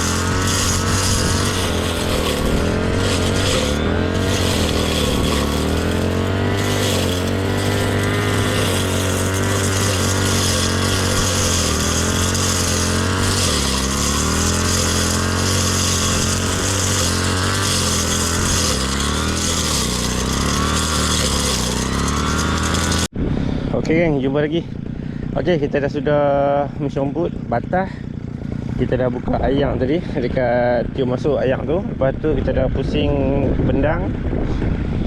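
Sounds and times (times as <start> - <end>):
brush cutter engine running: 0.0 - 35.0.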